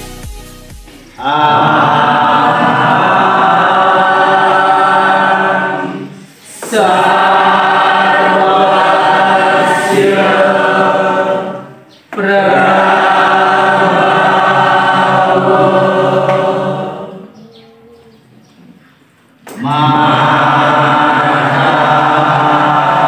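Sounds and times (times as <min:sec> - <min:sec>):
group chanting long held notes: 0:01.2 - 0:23.0.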